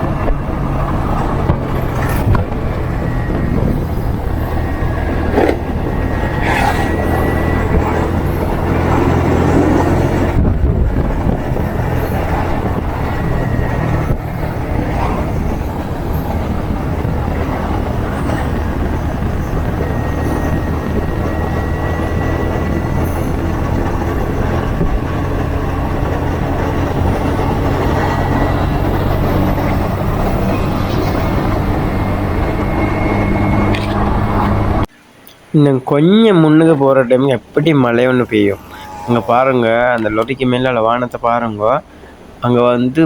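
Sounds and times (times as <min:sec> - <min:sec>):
wind rush on microphone: 0:00.0 - 0:34.9.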